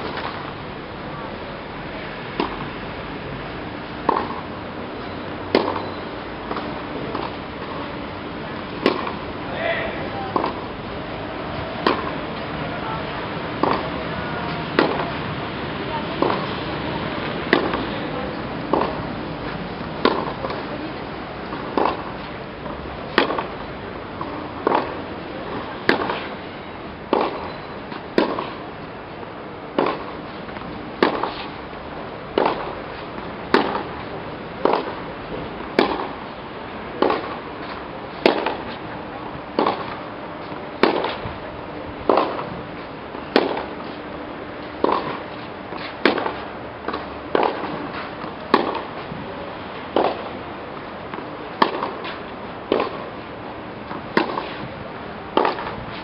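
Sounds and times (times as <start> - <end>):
tennis balls struck by racquets: 0.0 - 0.5, 2.3 - 2.8, 3.9 - 26.4, 27.0 - 56.0.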